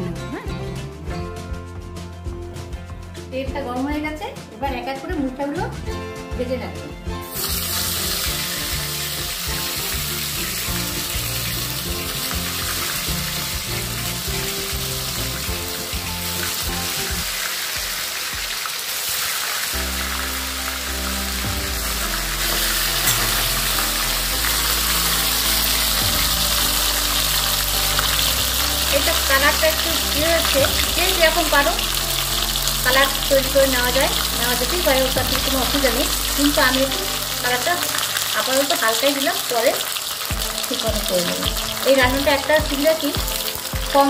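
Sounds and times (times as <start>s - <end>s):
background music: 0.0s - 44.0s
dumplings frying in hot oil: 7.3s - 44.0s.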